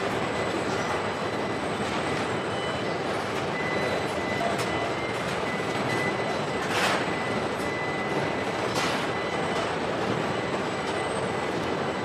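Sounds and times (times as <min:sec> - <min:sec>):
factory machinery running: 0:00.0 - 0:12.0.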